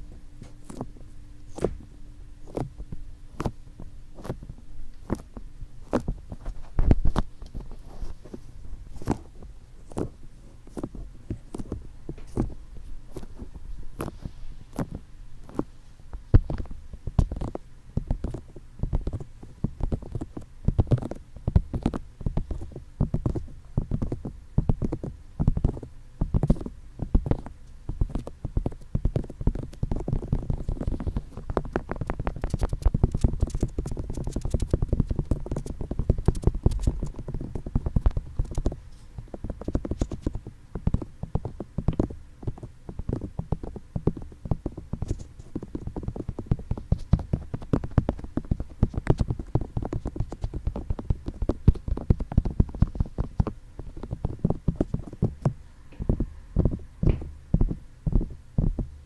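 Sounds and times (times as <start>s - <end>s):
fingertips tapping on microphone: 4.2s - 59.0s.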